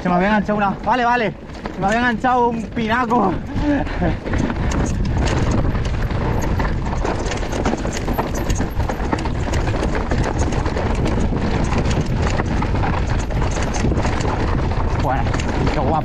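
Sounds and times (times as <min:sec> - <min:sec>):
bike clattering over stones: 0:00.0 - 0:16.0.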